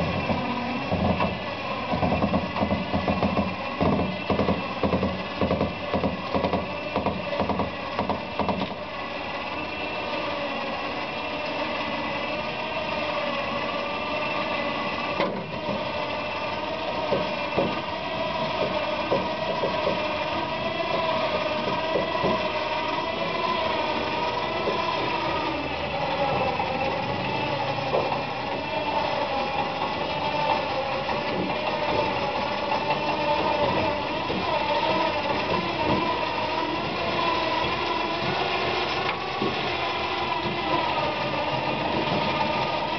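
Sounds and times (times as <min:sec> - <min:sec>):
small motor whining: 0:00.0 - 0:42.9.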